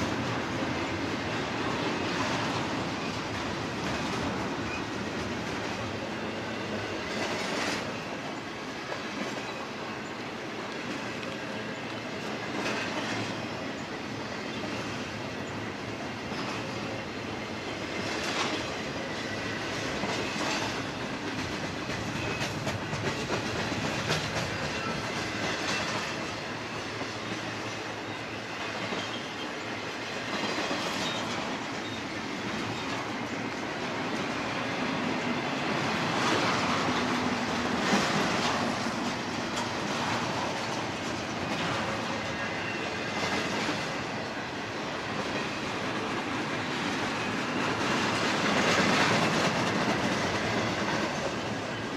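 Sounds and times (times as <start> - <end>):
wheels clickety-clack: 0.0 - 17.0, 17.6 - 51.9
freight train wheels rumbling on rail: 0.0 - 51.9.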